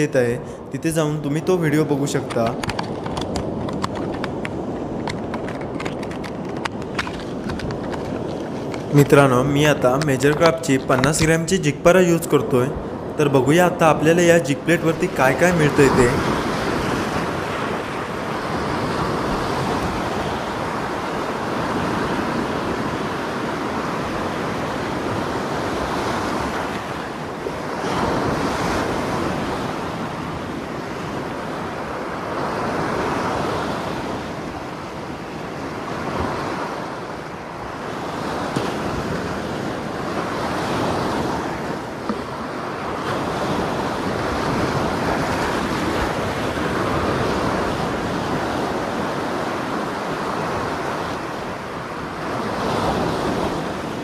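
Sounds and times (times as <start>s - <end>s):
sea surf breaking over rocks: 0.0s - 54.0s.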